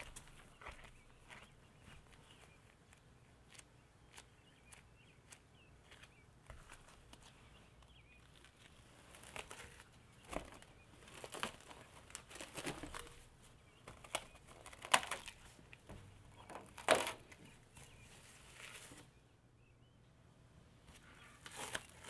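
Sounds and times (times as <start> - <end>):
cling film crinkling: 0.0 - 19.1, 21.3 - 22.0.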